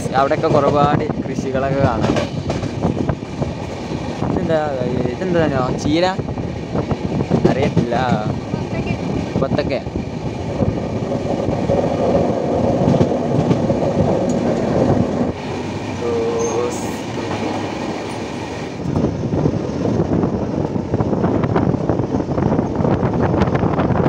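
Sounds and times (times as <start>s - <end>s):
train wheels rattling on rails: 0.0s - 24.0s.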